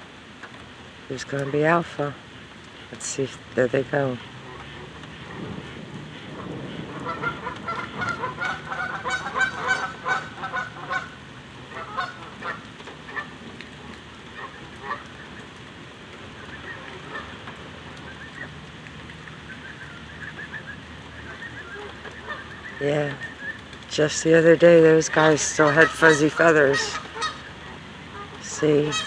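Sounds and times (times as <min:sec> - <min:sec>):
geese honking: 0:02.8 - 0:18.5, 0:19.5 - 0:23.4, 0:24.0 - 0:29.0.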